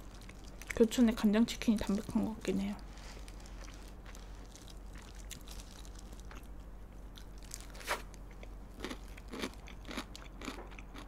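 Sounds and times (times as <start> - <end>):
chewing crispy fried chicken: 0.0 - 11.0.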